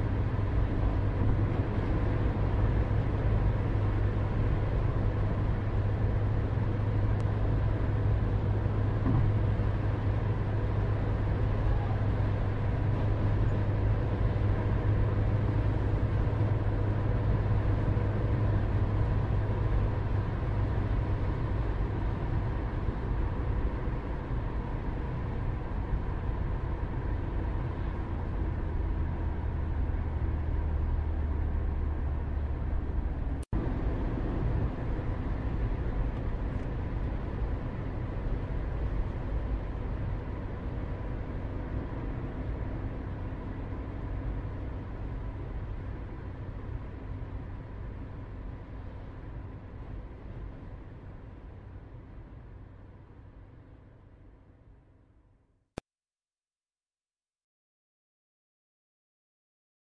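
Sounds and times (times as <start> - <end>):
low mechanical drone: 0.0 - 52.4.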